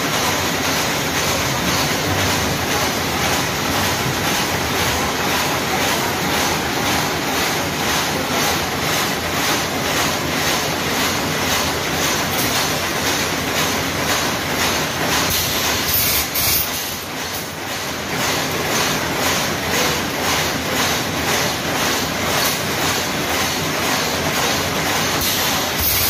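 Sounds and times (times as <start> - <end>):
machining center whirring: 0.0 - 26.0.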